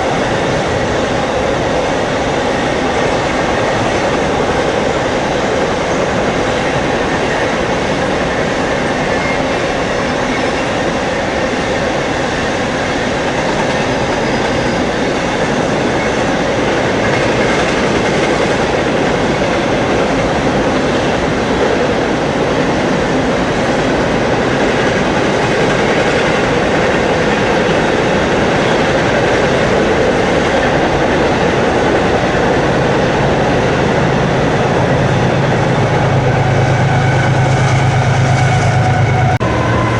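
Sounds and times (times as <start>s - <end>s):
train wheels clickety-clack: 0.0s - 39.4s.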